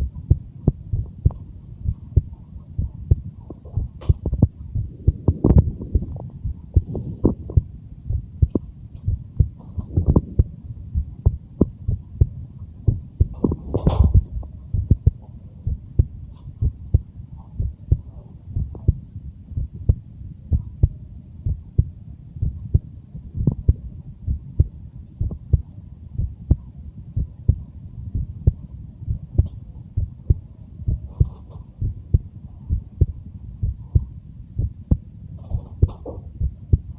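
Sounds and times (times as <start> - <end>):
heart beating: 0.0 - 36.9.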